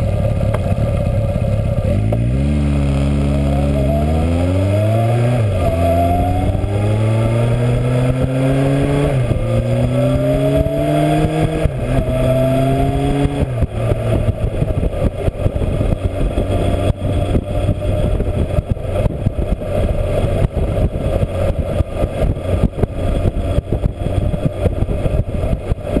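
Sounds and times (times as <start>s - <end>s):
motorcycle engine accelerating: 0.0s - 26.0s
rushing wind noise: 1.2s - 26.0s.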